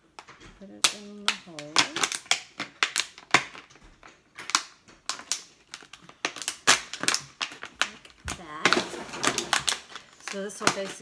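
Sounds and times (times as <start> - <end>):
plastic bottle crinkling: 0.0 - 11.0.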